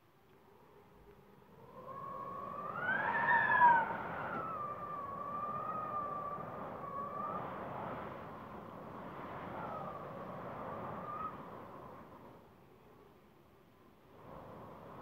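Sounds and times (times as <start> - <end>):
wind howling: 0.4 - 15.0.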